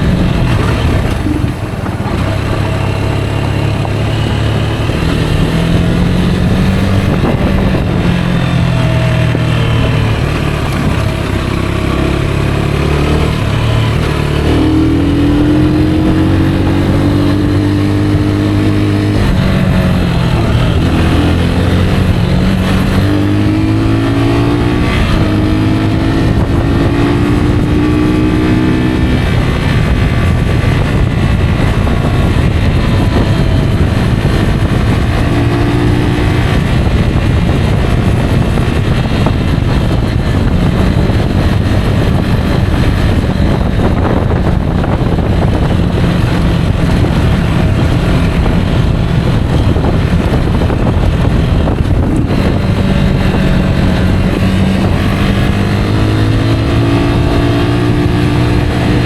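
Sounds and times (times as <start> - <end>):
constant noise: 0.0 - 59.0
motorcycle engine running: 0.0 - 59.0.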